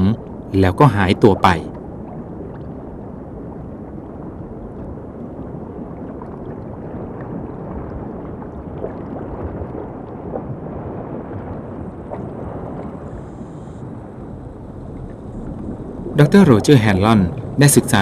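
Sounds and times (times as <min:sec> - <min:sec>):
low underwater rushing: 0:00.0 - 0:18.0.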